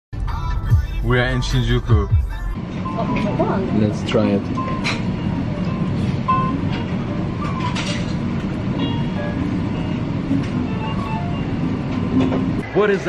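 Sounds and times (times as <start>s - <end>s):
restaurant din: 1.2s - 12.8s.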